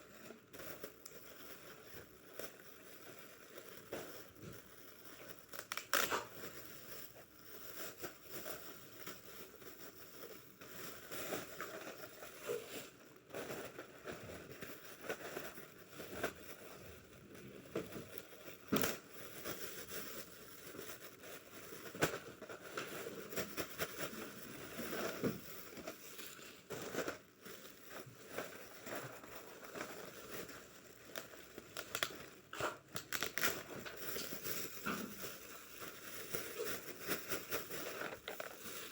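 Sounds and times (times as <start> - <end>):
packaging crinkling and rustling: 0.0 - 38.9.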